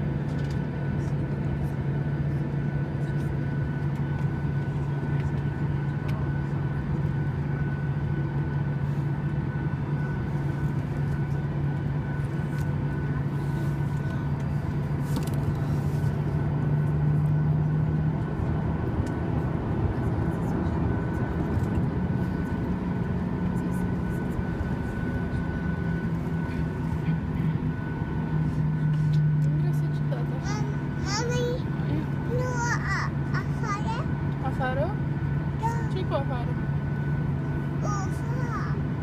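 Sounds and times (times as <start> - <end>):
airplane cabin drone: 0.0 - 39.0.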